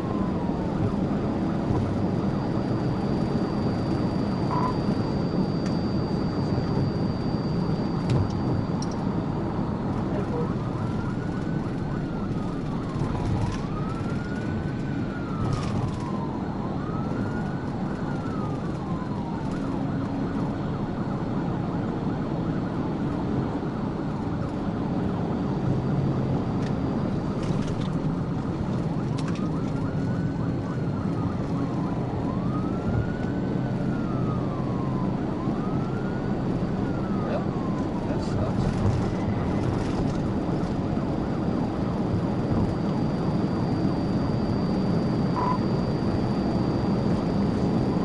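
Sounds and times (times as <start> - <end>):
car engine and road noise: 0.0 - 48.0
police siren wailing: 0.0 - 48.0.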